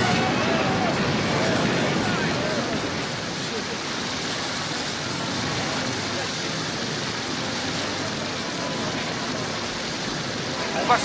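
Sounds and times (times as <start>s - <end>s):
churning waves: 0.0s - 11.0s
wind: 0.0s - 11.0s.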